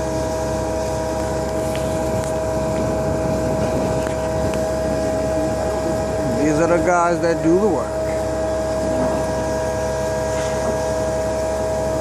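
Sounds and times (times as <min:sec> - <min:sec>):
truck engine drone with whine: 0:00.0 - 0:12.0.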